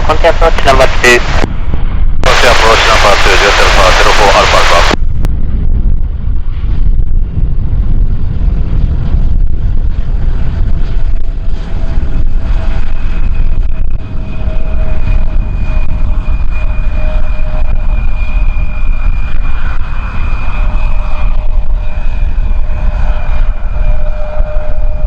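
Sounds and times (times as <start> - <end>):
airliner engines whining: 0.0 - 25.0
wind rumble on microphone: 0.0 - 25.0.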